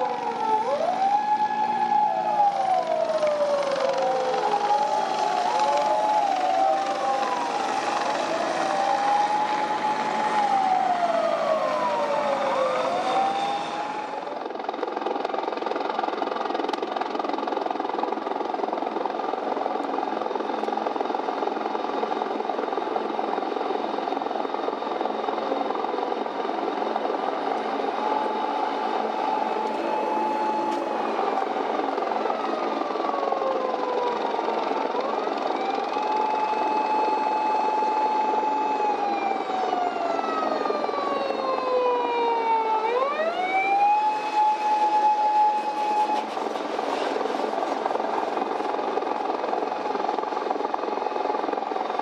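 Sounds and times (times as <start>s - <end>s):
engines droning: 0.0s - 14.5s, 22.5s - 50.7s
emergency vehicle sirens wailing: 0.0s - 52.0s
helicopter overhead: 0.0s - 52.0s.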